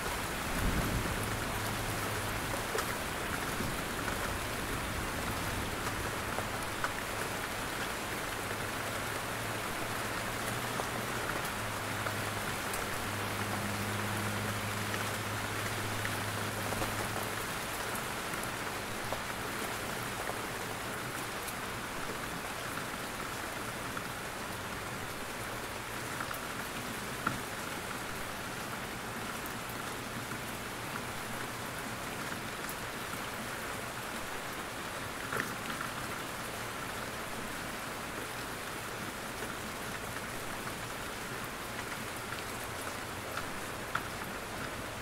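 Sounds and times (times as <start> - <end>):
rain pattering on leaves: 0.0 - 45.0.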